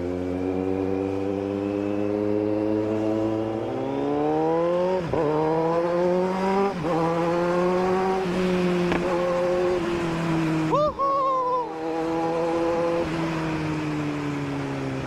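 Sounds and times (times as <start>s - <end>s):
motorcycle engine revving: 0.0s - 10.8s, 11.6s - 15.0s.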